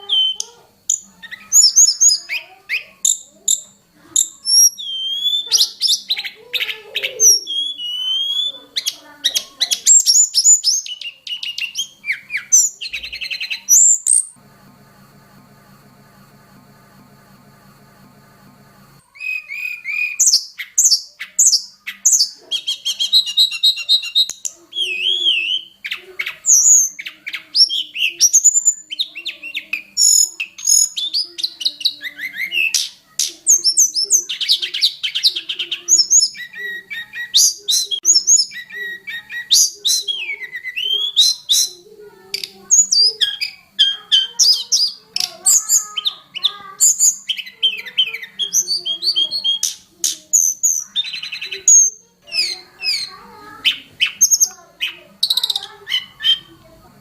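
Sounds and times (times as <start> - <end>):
songbird singing: 0.0 - 14.4, 19.0 - 56.8.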